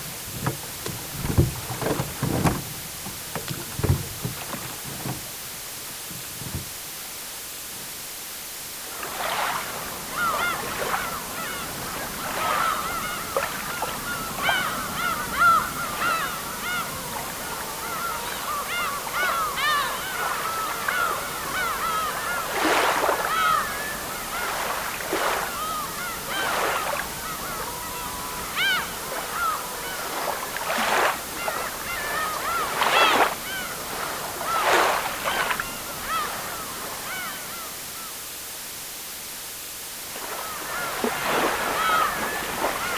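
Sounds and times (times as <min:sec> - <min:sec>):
waterbirds calling and honking: 0:00.0 - 0:06.7, 0:09.0 - 0:38.4, 0:40.2 - 0:42.9
water noise: 0:00.0 - 0:42.9.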